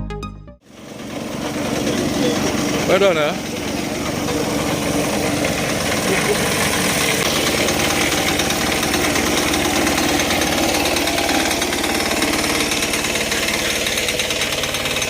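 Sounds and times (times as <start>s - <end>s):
construction machinery running: 0.6s - 15.0s
fast rattling pulse: 0.7s - 15.0s.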